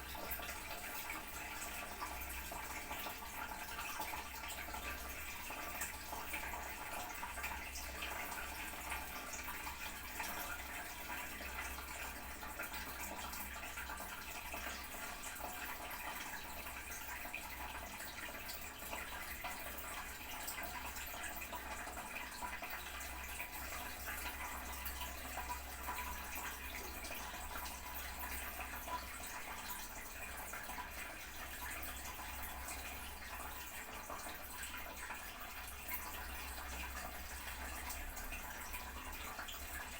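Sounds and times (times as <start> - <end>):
water running into toilet cistern: 0.0 - 39.9.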